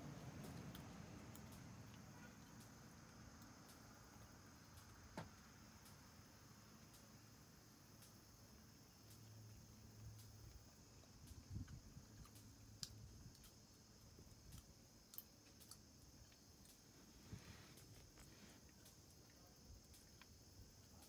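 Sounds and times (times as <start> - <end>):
steady high hiss: 0.0 - 21.0
faint clicks and ticks: 0.1 - 21.0.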